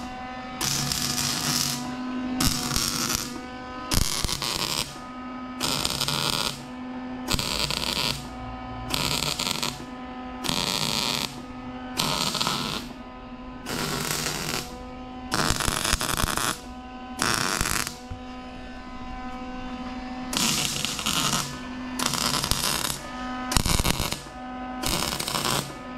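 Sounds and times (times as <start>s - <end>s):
steady hum: 0.0s - 25.9s
welder arc noise: 0.0s - 25.9s.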